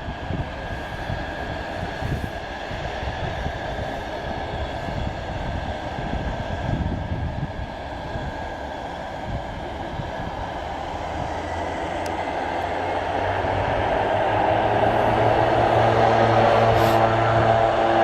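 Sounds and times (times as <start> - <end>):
turboprop engines rumbling: 0.0 - 18.0.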